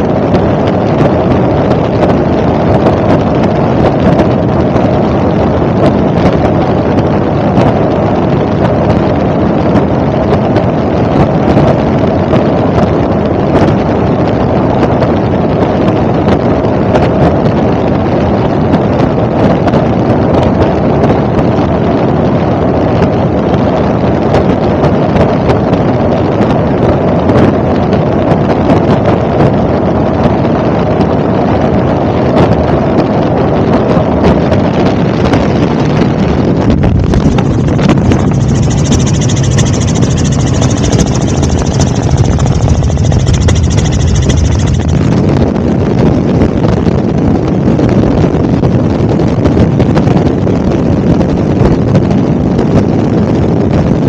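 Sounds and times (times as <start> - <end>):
helicopter engine and rotor noise: 0.0 - 29.2, 33.8 - 48.1
wind buffeting microphone: 0.0 - 54.0.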